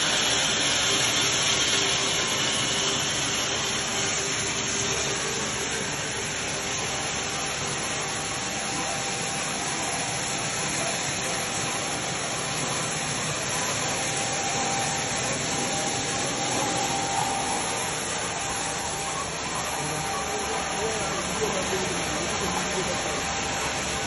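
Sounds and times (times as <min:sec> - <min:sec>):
belt conveyor whirring: 0:00.0 - 0:24.0.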